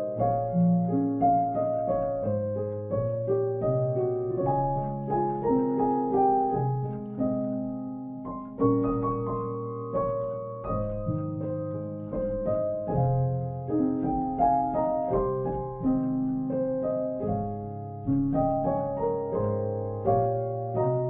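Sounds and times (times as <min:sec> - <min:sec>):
slow solo piano music: 0:00.0 - 0:21.0.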